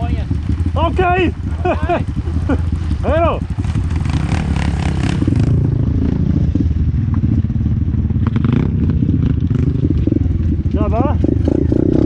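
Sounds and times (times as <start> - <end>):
small engine running rough: 0.0 - 6.2, 7.8 - 12.0.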